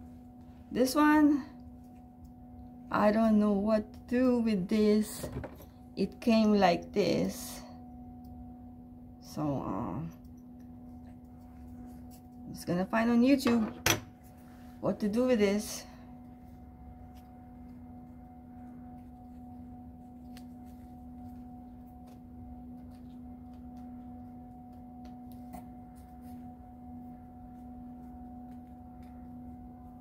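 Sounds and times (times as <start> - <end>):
steady single-pitched hum: 0.0 - 30.0.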